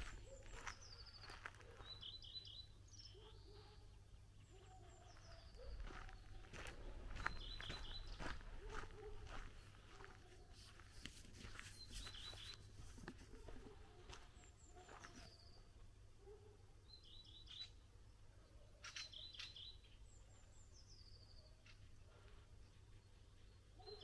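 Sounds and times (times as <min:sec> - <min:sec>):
small songbirds chirping: 0:00.0 - 0:15.9, 0:16.8 - 0:24.0.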